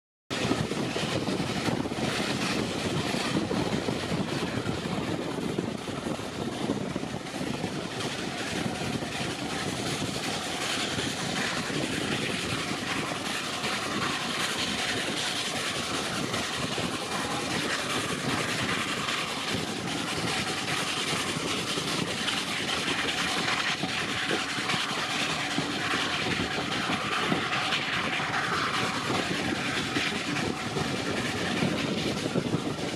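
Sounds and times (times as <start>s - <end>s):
steam locomotive working: 0.3s - 32.9s
train wheels clattering on rails: 0.3s - 32.9s.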